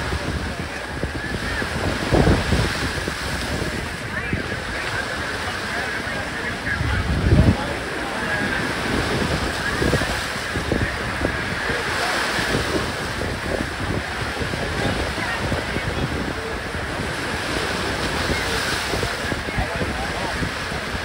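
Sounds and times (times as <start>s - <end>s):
surf washing on beach: 0.0s - 21.0s
wind buffeting microphone: 0.0s - 21.0s.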